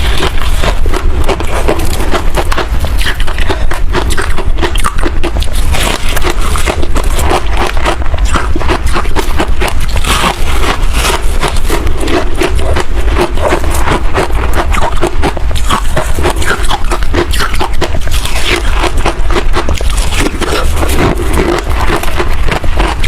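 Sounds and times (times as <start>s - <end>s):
chewing crunchy ice: 0.0s - 23.0s.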